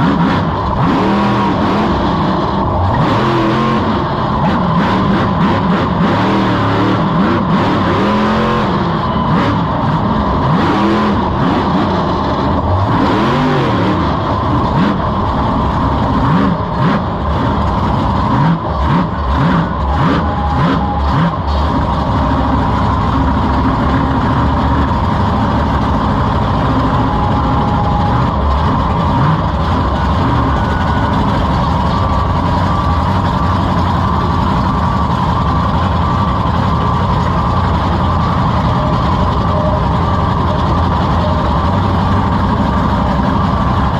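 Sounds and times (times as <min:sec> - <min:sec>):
monster truck engine revving: 0:00.0 - 0:43.9.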